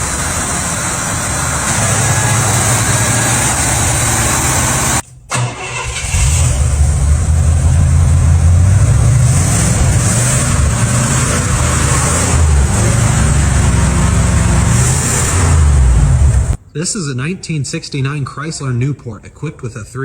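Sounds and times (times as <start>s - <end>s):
engine rumbling: 0.0s - 16.7s.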